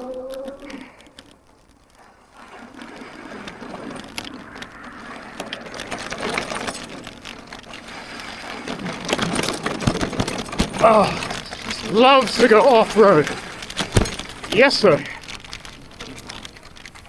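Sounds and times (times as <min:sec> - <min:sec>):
bike frame rattling: 0:00.0 - 0:17.0
tyre noise on rough ground: 0:00.0 - 0:17.0.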